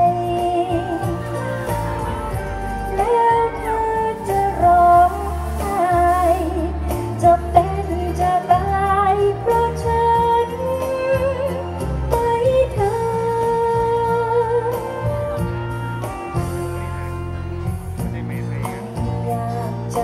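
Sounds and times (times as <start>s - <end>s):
woman singing into a microphone: 0.0s - 16.9s, 18.8s - 20.0s
band with bass and drums: 0.0s - 20.0s.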